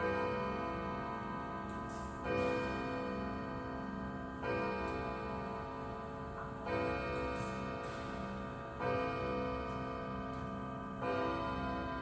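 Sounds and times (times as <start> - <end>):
clock chime striking: 0.0 - 12.0.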